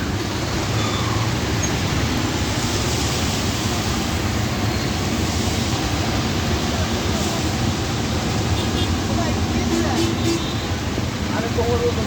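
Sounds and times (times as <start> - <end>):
low rumble of vehicles: 0.0 - 12.0
rushing street noise: 0.0 - 12.0.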